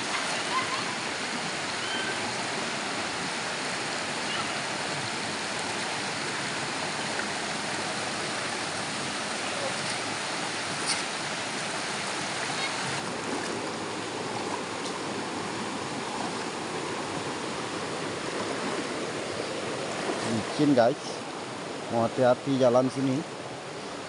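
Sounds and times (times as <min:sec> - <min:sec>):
water rushing over stones: 0:00.0 - 0:22.2.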